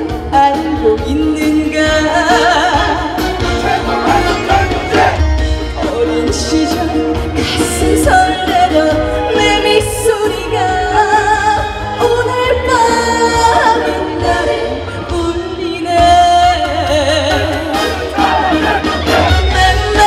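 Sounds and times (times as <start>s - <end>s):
woman singing into microphone: 0.0s - 3.4s, 5.7s - 17.8s, 19.3s - 20.0s
amplified band accompaniment: 0.0s - 20.0s.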